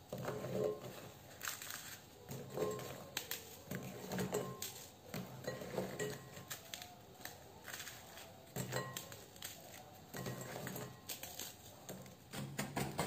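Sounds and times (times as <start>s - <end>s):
pieces clinking against glass bowl: 0.0s - 12.2s
biscuits snapping: 1.2s - 5.4s, 6.1s - 10.4s, 11.0s - 13.0s.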